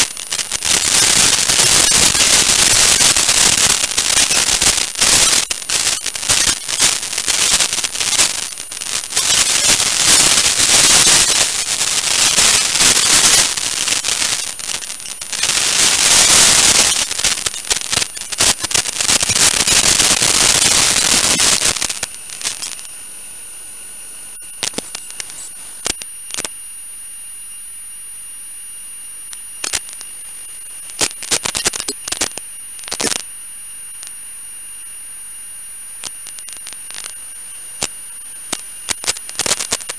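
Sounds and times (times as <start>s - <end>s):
faint high whine: 0.0s - 39.9s
video receiver static hiss: 0.0s - 39.9s.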